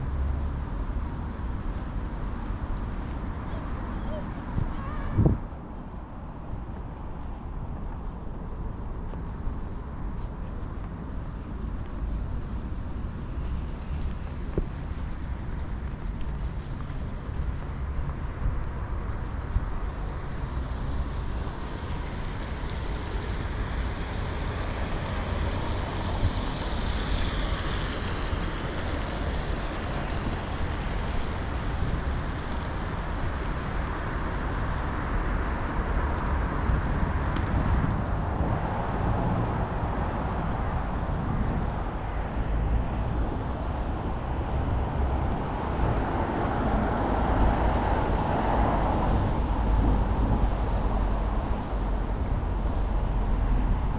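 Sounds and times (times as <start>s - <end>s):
cars passing: 0.0s - 53.9s
street traffic: 0.0s - 53.9s.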